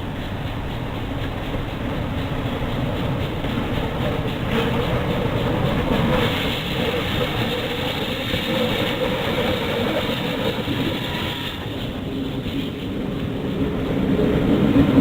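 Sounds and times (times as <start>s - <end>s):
train rolling on rails: 0.0s - 15.0s.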